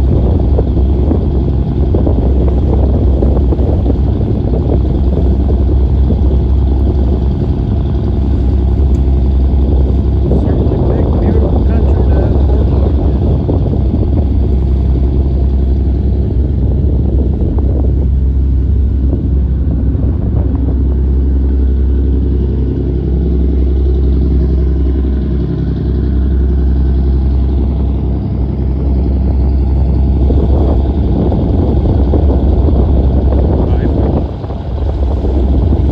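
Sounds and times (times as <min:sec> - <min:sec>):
boat engine rumbling: 0:00.0 - 0:35.9
wind on microphone: 0:00.0 - 0:35.9.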